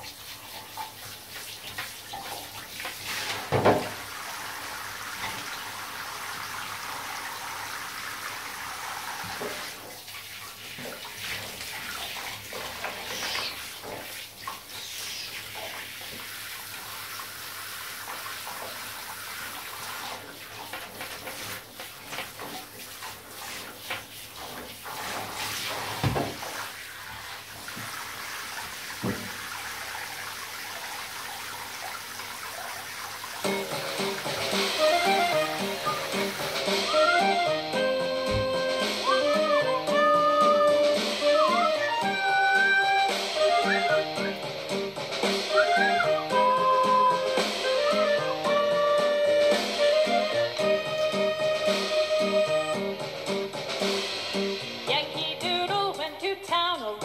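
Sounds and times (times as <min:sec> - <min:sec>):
shower water spraying: 0:00.0 - 0:55.0.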